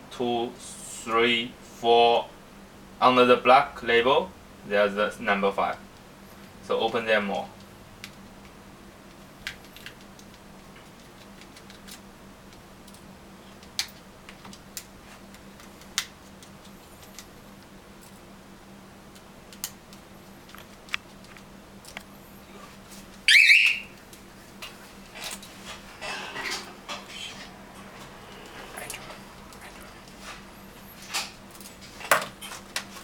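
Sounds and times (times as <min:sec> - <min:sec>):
faint low hum: 0:00.0 - 0:31.8.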